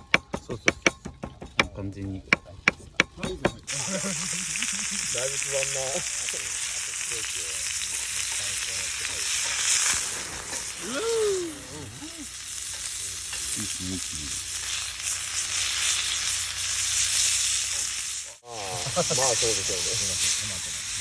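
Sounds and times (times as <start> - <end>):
food sizzling in a pan: 3.6 - 21.0.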